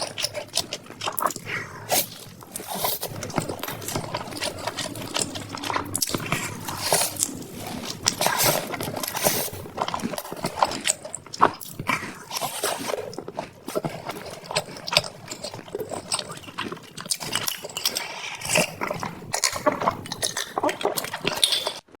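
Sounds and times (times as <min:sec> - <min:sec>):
wet chewing and crunching: 0:00.0 - 0:22.0.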